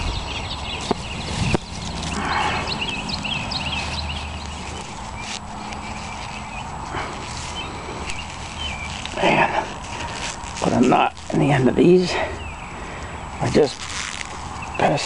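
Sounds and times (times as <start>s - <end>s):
rustle of dry stalks: 0.0s - 15.0s
small birds chirping: 0.0s - 15.0s.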